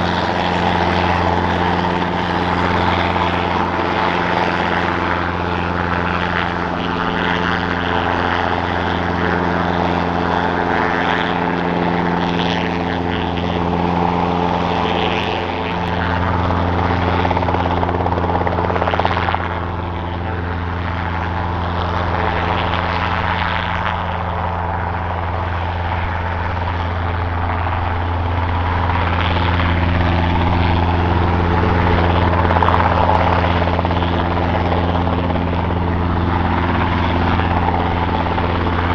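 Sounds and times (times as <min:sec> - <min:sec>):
helicopter hovering drone: 0:00.0 - 0:38.9.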